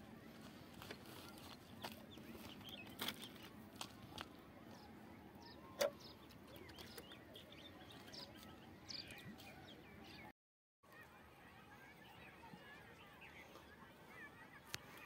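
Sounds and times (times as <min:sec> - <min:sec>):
faint birds chirping: 0:00.0 - 0:10.3, 0:10.9 - 0:15.0.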